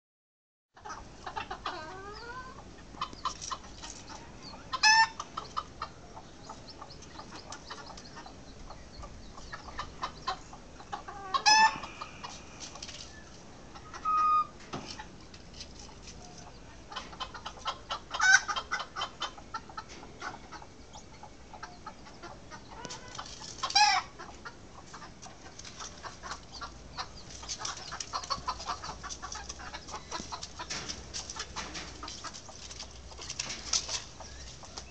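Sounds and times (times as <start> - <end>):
chickens clucking and calling: 0.8 - 34.9.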